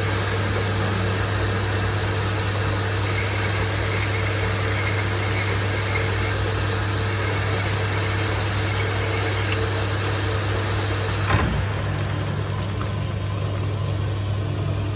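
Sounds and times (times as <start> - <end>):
metal lathe humming: 0.0 - 14.9.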